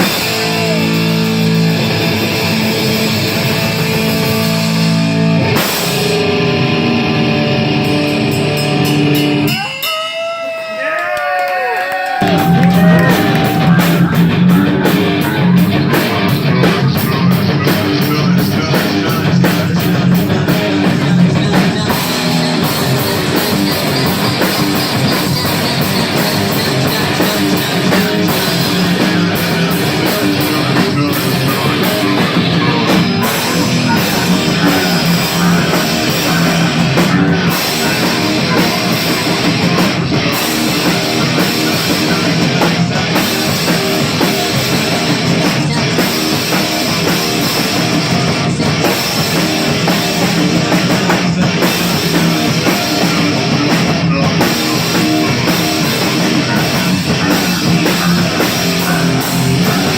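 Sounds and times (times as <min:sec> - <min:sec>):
rock band playing live: 0:00.0 - 0:10.8, 0:12.1 - 0:59.9.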